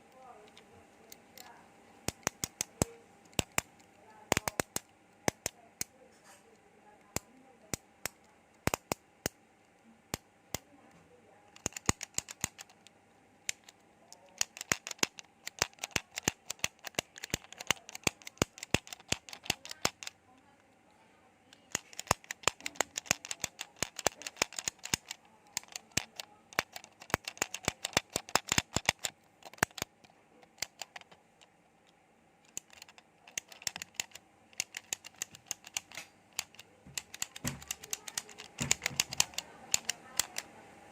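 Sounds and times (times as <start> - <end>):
rapid sharp clicking: 1.4 - 5.6, 7.7 - 9.4, 11.5 - 20.2, 21.6 - 40.5.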